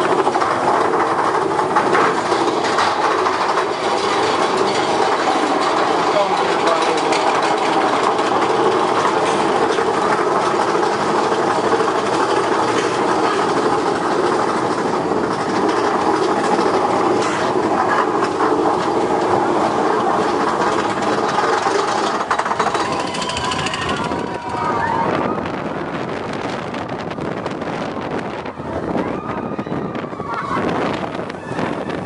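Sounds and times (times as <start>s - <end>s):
roller coaster rattling on lift hill: 0.0s - 32.0s.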